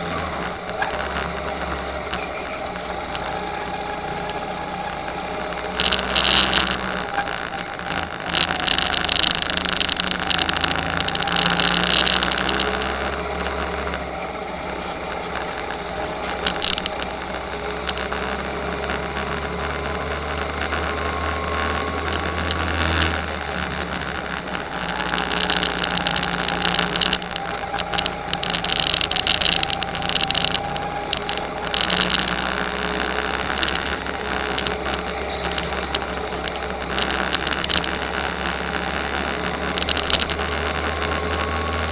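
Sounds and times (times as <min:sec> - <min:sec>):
go-kart engine running: 0:00.0 - 0:41.9
kart rattling clatter: 0:00.0 - 0:41.9.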